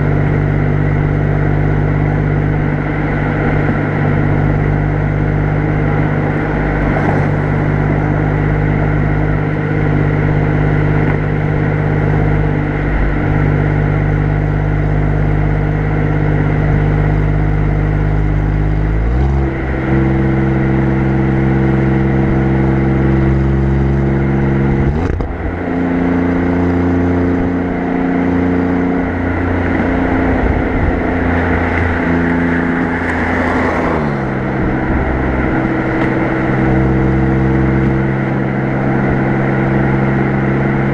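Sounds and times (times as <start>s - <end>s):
car exhaust cruising: 0.0s - 40.9s.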